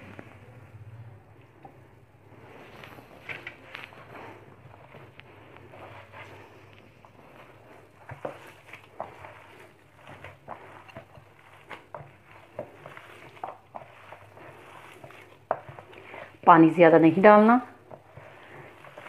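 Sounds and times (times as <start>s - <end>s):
batter squishing: 0.0s - 19.0s.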